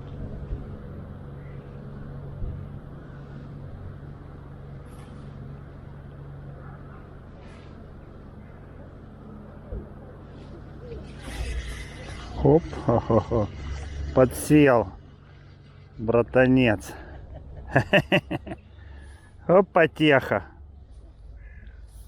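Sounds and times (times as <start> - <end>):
road traffic hum: 0.0 - 22.0
vehicle engine droning: 0.0 - 22.0.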